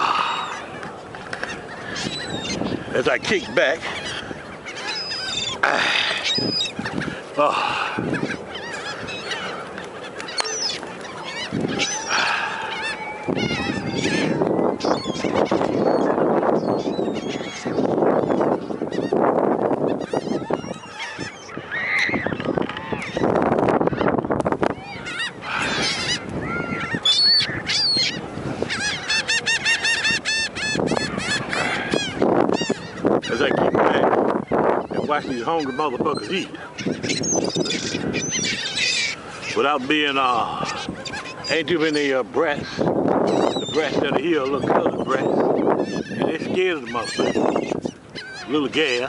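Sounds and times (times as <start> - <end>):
seagulls calling: 0.0 - 49.0.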